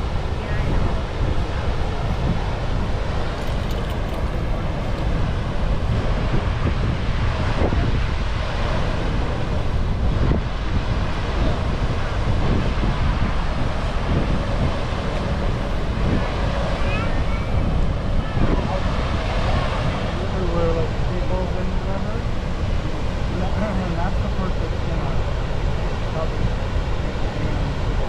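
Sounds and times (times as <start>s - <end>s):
water rushing over dam: 0.0s - 28.0s
wind buffeting microphone: 0.0s - 28.0s.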